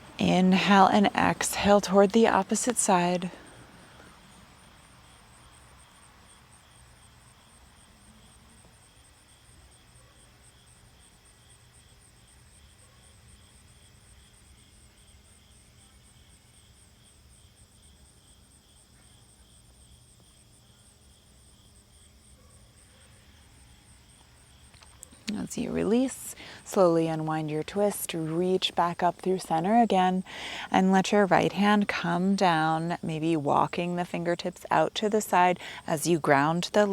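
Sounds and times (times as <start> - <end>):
faint insects chirping: 0.0 - 36.9.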